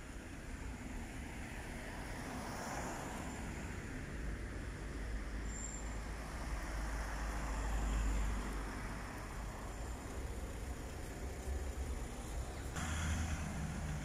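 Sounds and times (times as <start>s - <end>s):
cars driving past: 0.1s - 14.0s.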